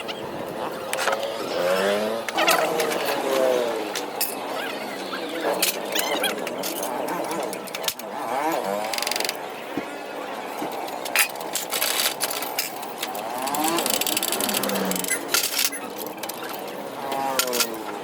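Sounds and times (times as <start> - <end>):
indistinct voices: 0.0 - 18.0.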